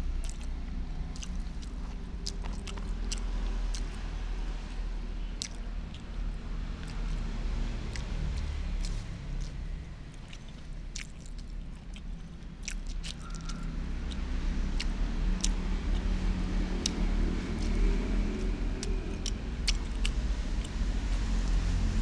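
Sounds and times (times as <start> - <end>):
person chewing food: 0.1 - 22.0
mouth clicks and smacks: 0.2 - 21.8.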